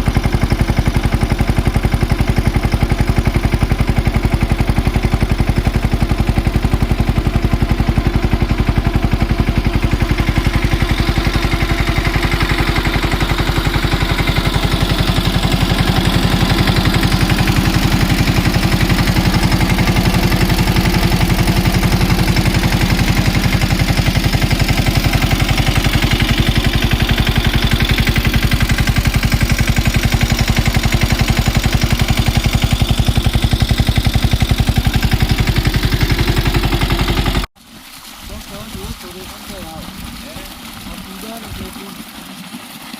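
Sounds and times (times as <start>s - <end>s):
diesel tractor engine clattering: 0.0s - 37.5s.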